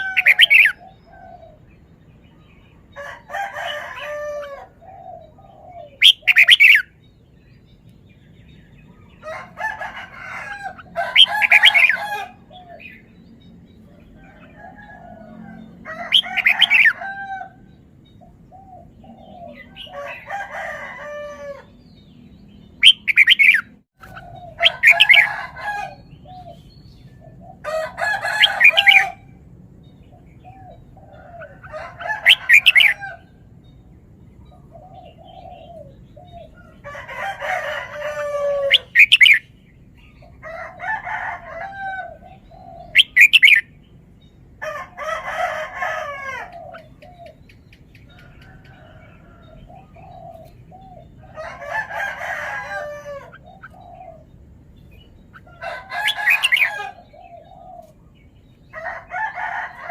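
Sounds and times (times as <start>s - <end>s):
bird singing warbled phrases: 0.0s - 41.4s, 42.0s - 59.9s.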